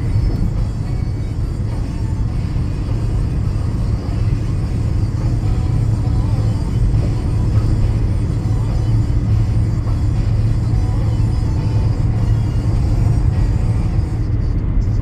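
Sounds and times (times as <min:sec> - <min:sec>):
low road rumble: 0:00.0 - 0:15.0
music playing: 0:00.0 - 0:15.0.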